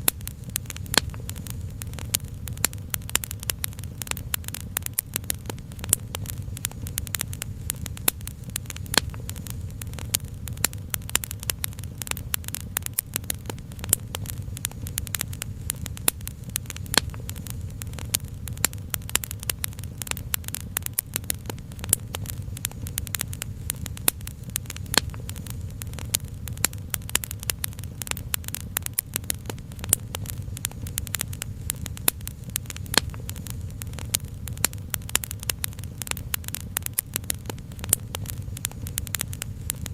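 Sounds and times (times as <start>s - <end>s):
fire crackling and popping: 0.0s - 39.9s
steady low rumble: 0.0s - 39.9s.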